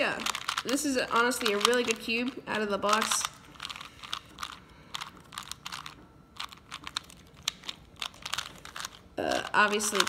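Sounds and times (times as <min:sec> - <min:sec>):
speed cube clicking: 0:00.0 - 0:10.0.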